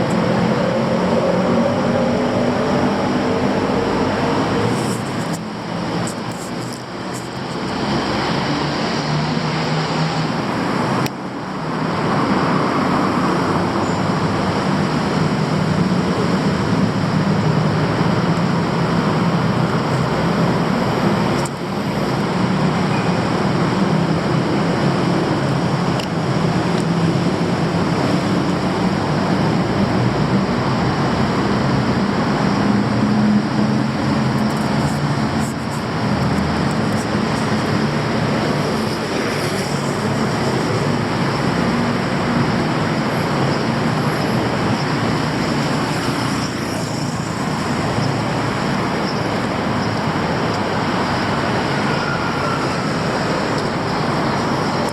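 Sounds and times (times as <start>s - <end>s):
road traffic passing: 0.0s - 54.9s.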